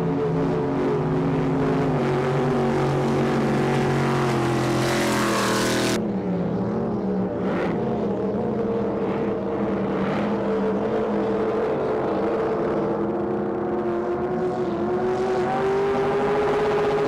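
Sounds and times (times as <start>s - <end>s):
powerboat engines running hard: 0.0s - 17.0s.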